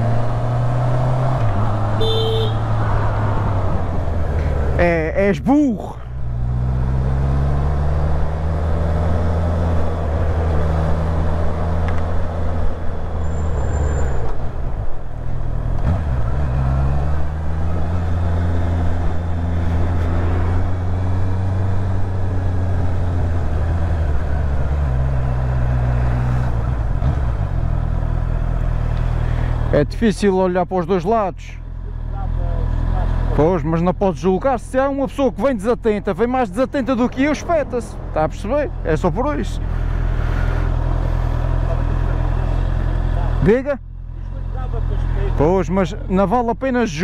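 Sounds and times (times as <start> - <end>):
car engine humming: 0.0 - 30.1, 31.0 - 47.0
road noise: 0.0 - 47.0.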